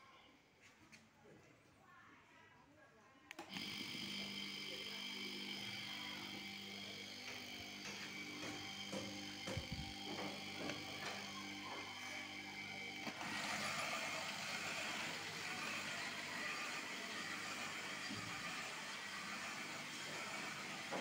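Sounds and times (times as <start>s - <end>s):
hose reel motor humming: 3.4s - 21.0s.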